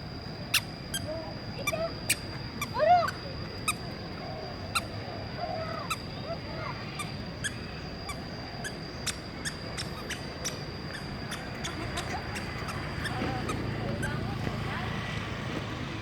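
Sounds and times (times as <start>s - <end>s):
steady high whine: 0.0s - 16.0s.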